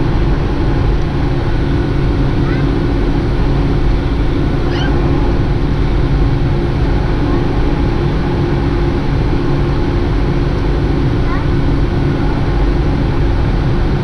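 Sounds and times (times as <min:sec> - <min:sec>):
jet engine drone in cabin: 0:00.0 - 0:14.0.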